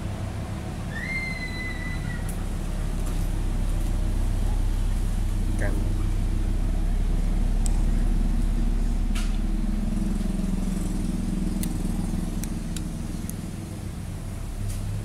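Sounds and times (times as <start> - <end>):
low motor-like drone: 0.0 - 15.0.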